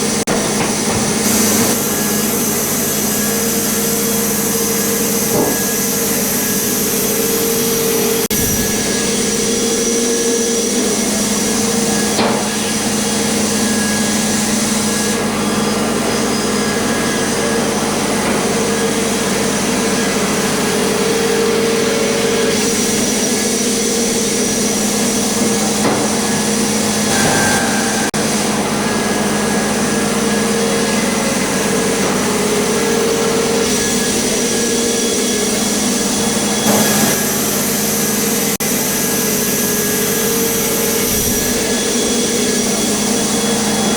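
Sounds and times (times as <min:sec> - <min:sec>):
sawmill blade cutting log: 0:00.0 - 0:43.9.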